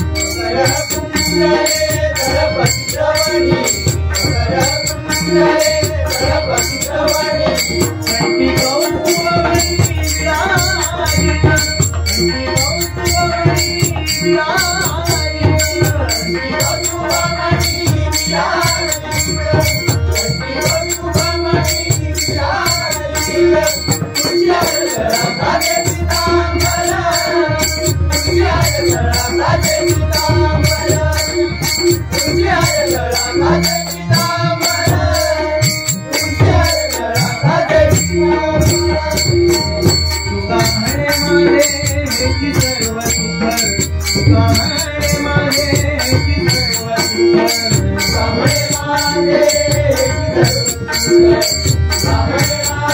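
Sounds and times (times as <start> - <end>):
hand drums playing: 0.0 - 52.9.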